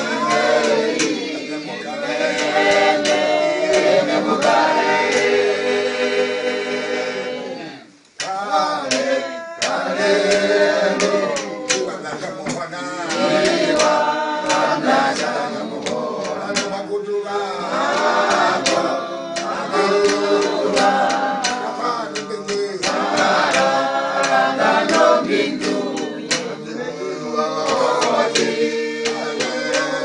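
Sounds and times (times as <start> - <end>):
men singing in harmony: 0.0 - 30.0.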